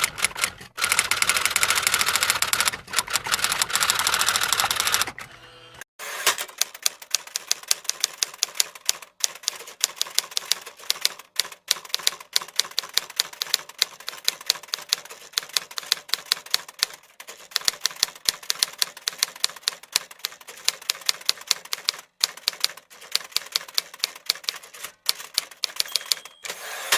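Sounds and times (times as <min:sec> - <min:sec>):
computer keyboard typing: 0:00.0 - 0:05.1, 0:06.5 - 0:26.4.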